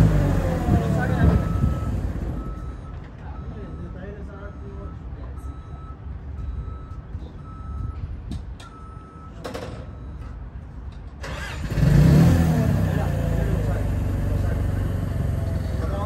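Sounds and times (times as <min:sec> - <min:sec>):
vehicle reversing alarm beeping: 0:00.0 - 0:10.9, 0:12.8 - 0:16.0
low engine rumble: 0:00.0 - 0:16.0.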